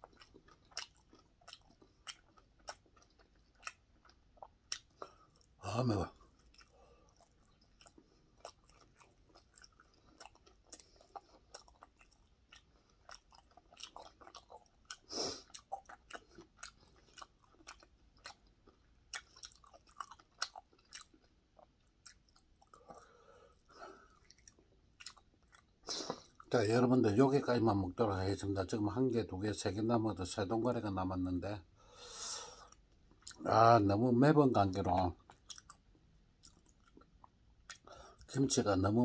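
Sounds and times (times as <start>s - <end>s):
person chewing food: 0.0s - 26.5s, 32.0s - 33.5s, 35.0s - 38.3s.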